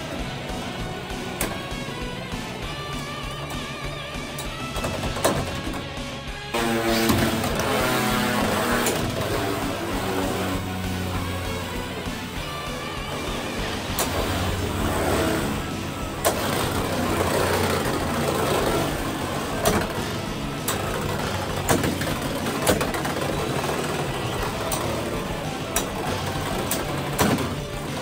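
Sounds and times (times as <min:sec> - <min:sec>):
tops clacking together: 0:00.0 - 0:12.4, 0:13.0 - 0:28.0
spinning tops whirring: 0:00.0 - 0:28.0.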